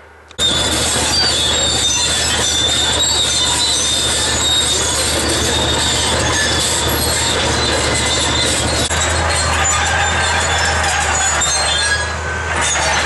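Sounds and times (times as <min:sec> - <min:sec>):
bulldozer diesel engine running: 0:00.0 - 0:13.0
squealing steel crawler tracks: 0:00.0 - 0:13.0.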